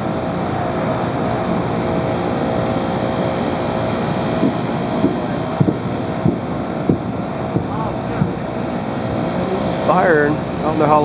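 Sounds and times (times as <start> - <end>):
distant turboprop engines drone: 0.0 - 11.0.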